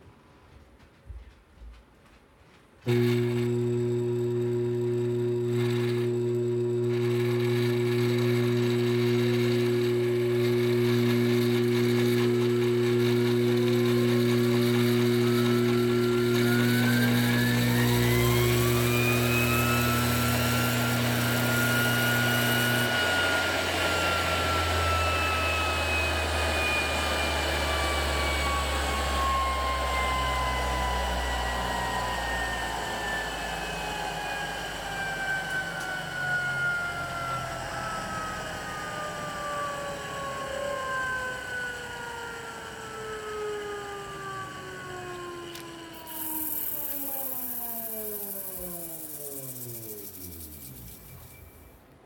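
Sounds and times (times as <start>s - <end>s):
motor whine: 2.9s - 52.0s.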